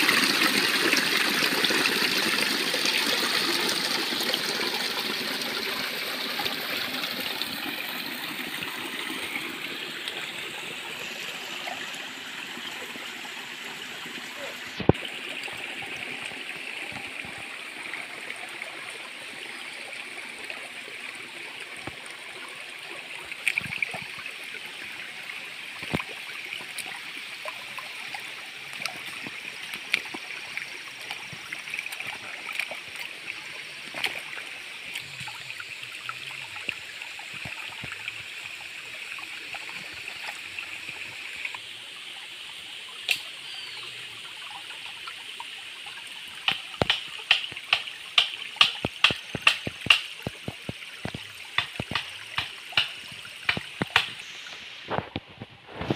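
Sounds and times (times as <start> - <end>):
stream trickling over stones: 0.0 - 55.9.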